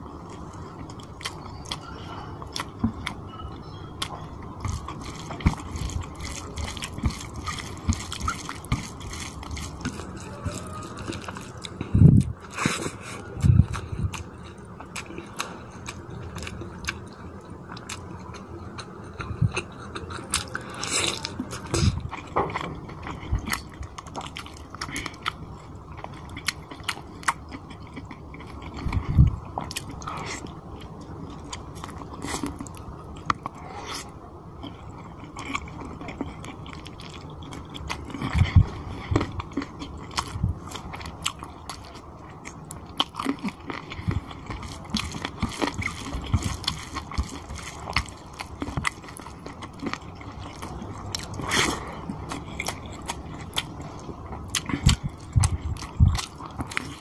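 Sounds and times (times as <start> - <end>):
chewing and biting food: 0.1 - 57.0.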